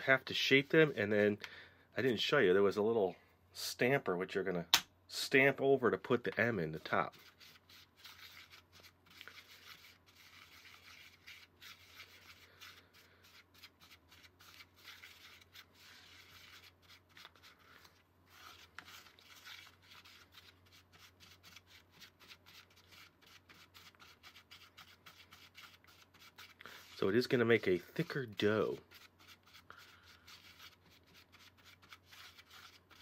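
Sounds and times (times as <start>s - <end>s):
spoon scraping dough in a bowl: 6.4s - 33.0s.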